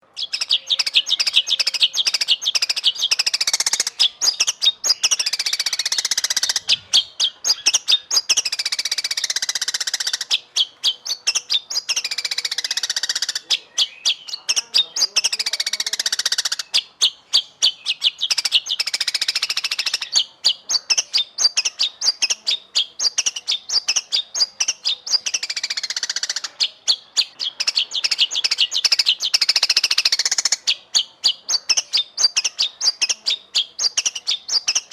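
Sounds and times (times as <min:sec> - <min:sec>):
bird singing rapid chattering notes: 0:00.0 - 0:34.9.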